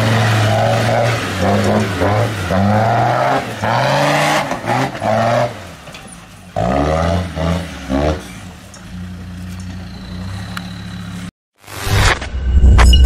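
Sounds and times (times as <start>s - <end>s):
diesel engine revving: 0.0s - 11.3s.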